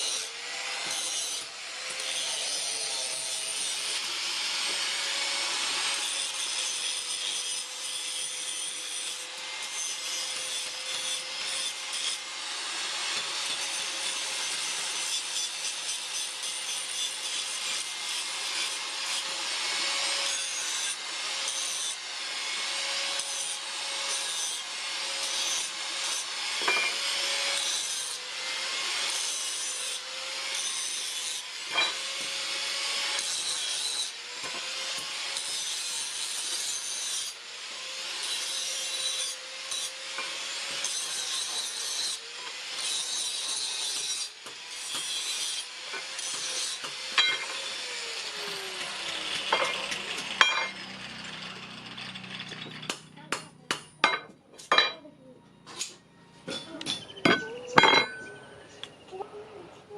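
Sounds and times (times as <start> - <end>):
file rasping steel: 0.0 - 55.0.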